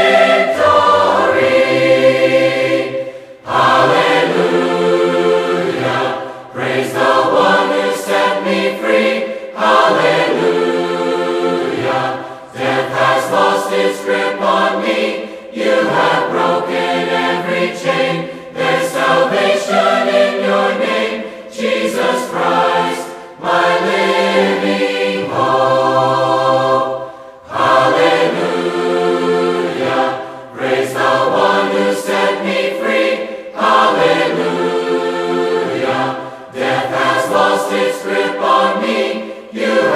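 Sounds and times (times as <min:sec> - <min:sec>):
mixed choir singing: 0:00.0 - 0:39.9.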